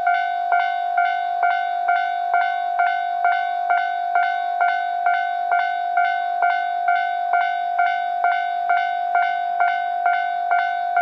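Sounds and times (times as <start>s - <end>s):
level crossing alarm ringing: 0.0s - 11.0s.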